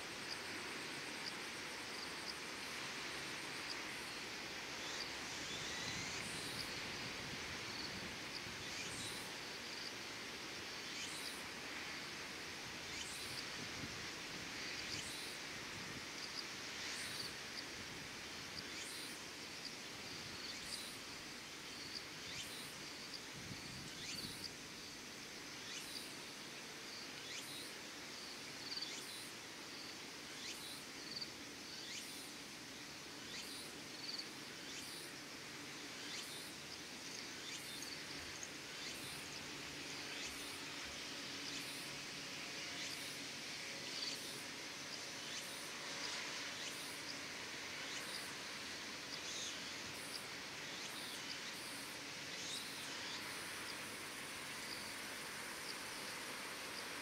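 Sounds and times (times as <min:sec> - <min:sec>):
insects chirping: 0:00.0 - 0:57.0
soft outdoor hiss: 0:00.0 - 0:57.0.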